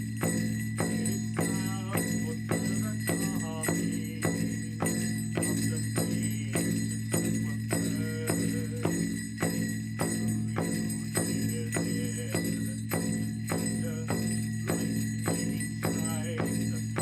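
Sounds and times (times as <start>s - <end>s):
large drum beating steadily: 0.0s - 17.0s.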